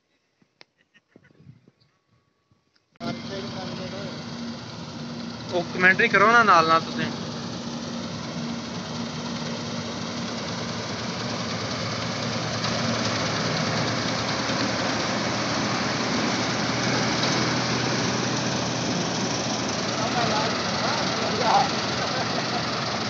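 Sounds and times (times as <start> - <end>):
combine harvester engine drone: 3.0 - 23.0.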